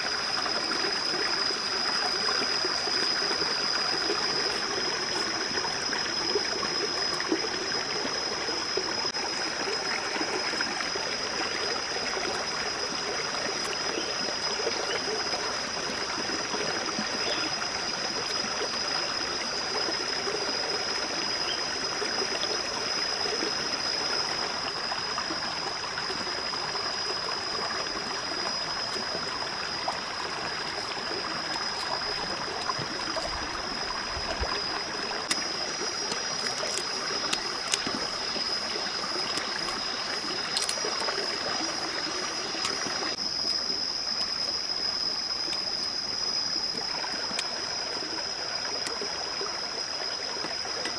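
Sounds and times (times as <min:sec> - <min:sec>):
rocky stream running: 0:00.0 - 0:50.9.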